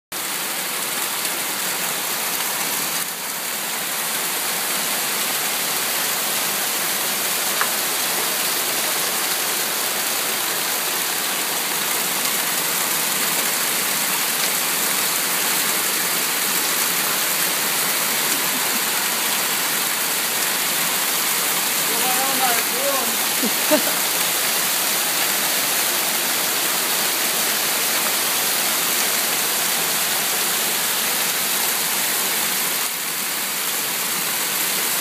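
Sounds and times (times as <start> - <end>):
hail and rain on wooden deck: 0.2 - 35.0.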